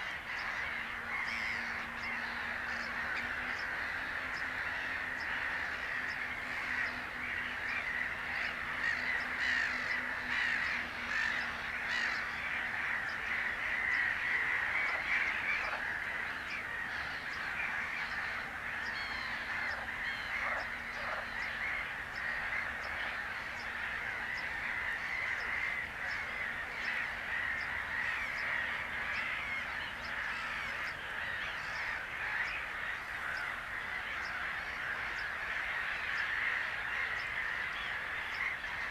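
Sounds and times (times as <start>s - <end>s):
chorus of birds calling: 0.0s - 38.9s.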